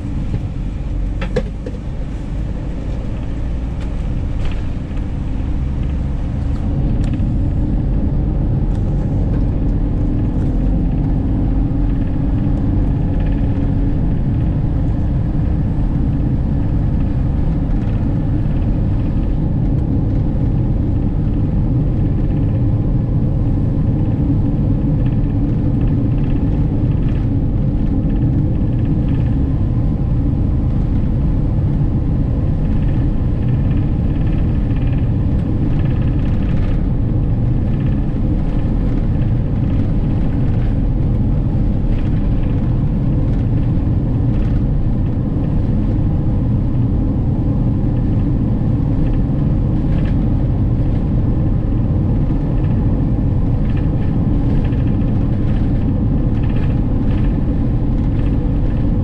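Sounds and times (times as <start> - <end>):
tyres rumbling on road: 0.0 - 59.0
van engine: 0.0 - 59.0.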